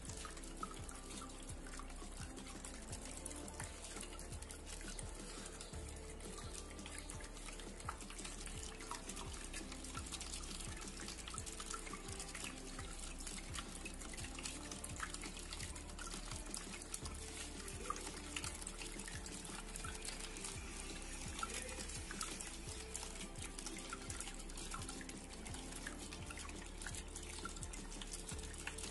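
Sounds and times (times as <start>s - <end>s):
water drips and plinks: 0.0s - 28.9s
water trickling down fountain: 0.0s - 28.9s.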